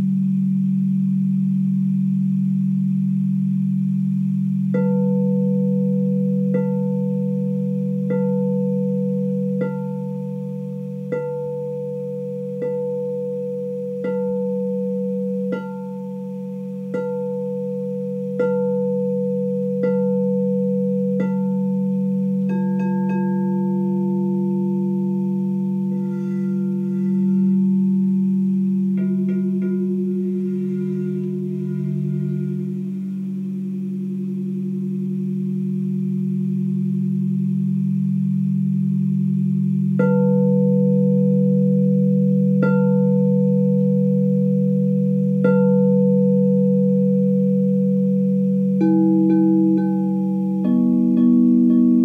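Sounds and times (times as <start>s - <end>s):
low hum: 0.0s - 52.0s
lower-pitched bowl ringing: 0.0s - 52.0s
singing bowl struck with mallet: 0.0s - 52.0s.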